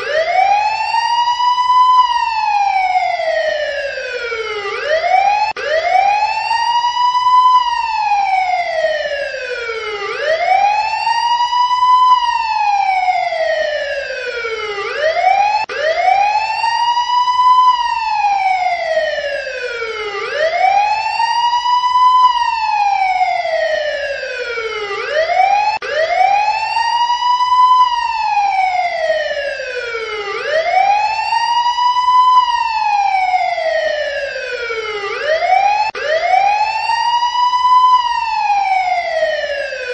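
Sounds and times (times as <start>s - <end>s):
emergency siren wailing: 0.0s - 39.9s.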